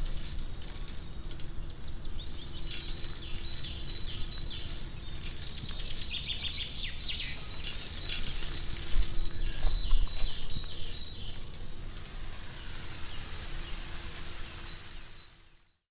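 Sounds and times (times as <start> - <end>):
low background rush: 0.0 - 15.8
small birds chirping: 0.0 - 15.8.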